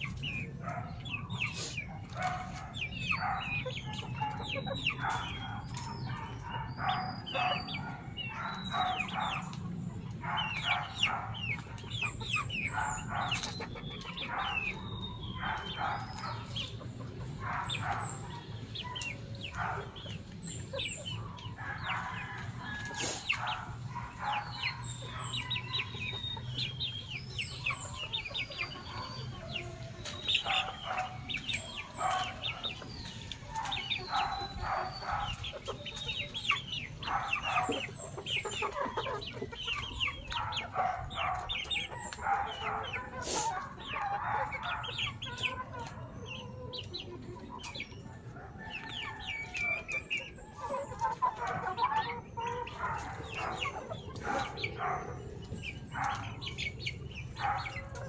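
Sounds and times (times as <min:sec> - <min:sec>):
chickens clucking and calling: 0:00.0 - 0:58.0.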